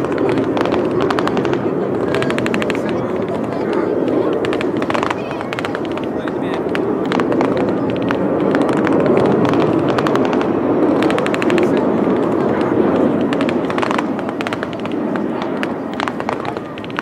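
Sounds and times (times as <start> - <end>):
jet engine roar with crackling: 0.0 - 17.0.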